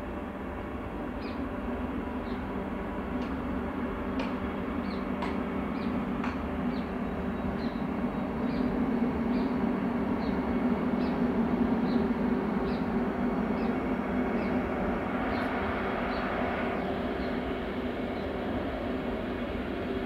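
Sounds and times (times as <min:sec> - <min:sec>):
constant low hum: 0:00.0 - 0:20.0
train wheels rumbling on rails: 0:00.0 - 0:20.0.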